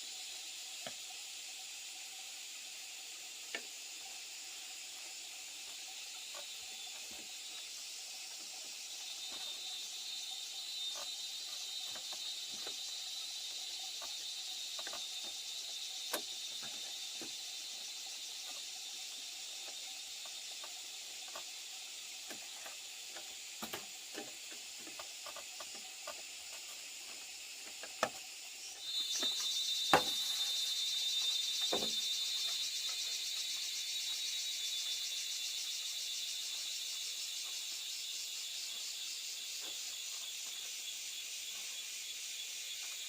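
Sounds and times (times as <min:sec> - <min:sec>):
high-pitched insect buzzing: 0:01.9 - 0:43.0.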